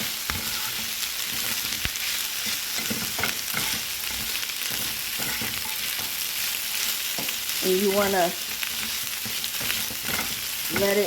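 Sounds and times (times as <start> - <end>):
chicken sizzling in a skillet: 0.0 - 11.0.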